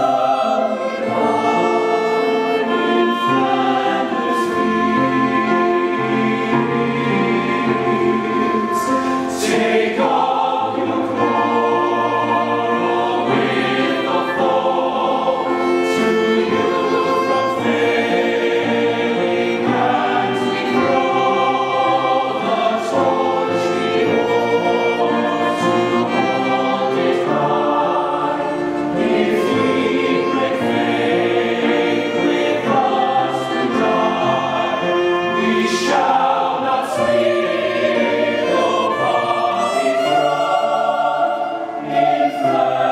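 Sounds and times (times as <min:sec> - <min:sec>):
mixed choir singing: 0:00.0 - 0:42.9.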